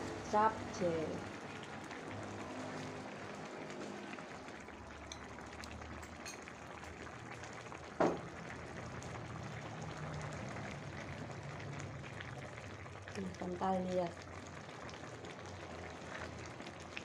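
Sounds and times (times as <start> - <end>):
broth bubbling in a wok: 0.0 - 17.0.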